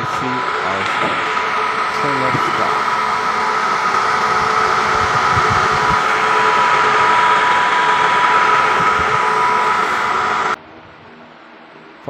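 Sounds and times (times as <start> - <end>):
small electric motor whirring: 0.0 - 10.6.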